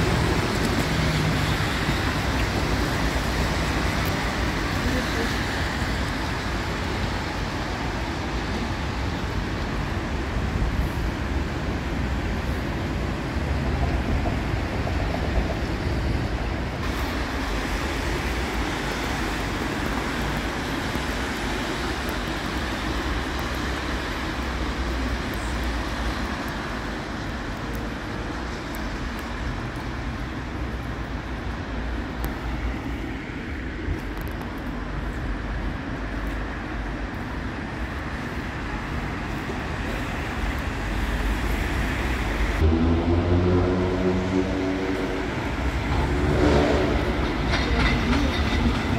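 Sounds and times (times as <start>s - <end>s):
city street traffic: 0.0s - 48.9s.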